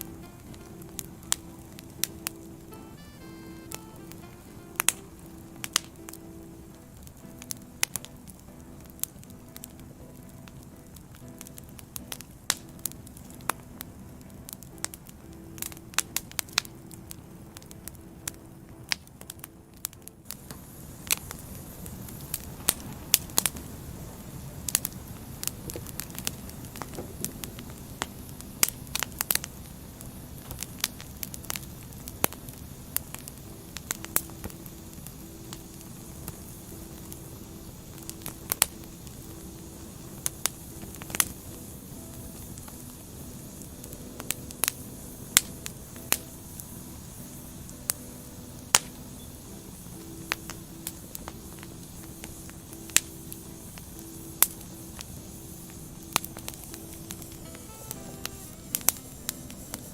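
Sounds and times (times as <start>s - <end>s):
firewood crackling and popping: 0.0s - 59.9s
low rush of flame: 4.1s - 59.9s.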